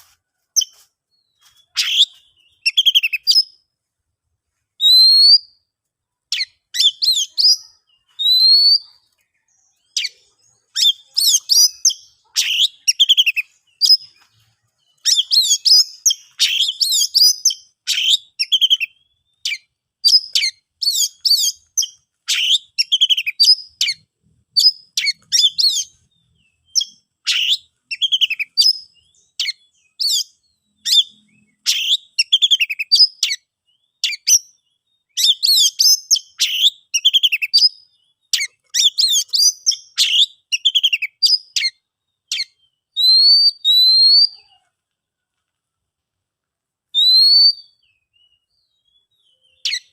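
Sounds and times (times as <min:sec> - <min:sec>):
bird whistling song: 0:00.6 - 0:03.6, 0:04.8 - 0:05.7, 0:06.3 - 0:44.6, 0:46.9 - 0:49.9.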